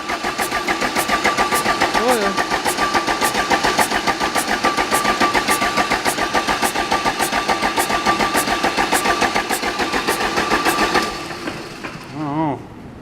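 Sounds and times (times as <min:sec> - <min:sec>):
diesel engine cranking: 0:00.0 - 0:12.2.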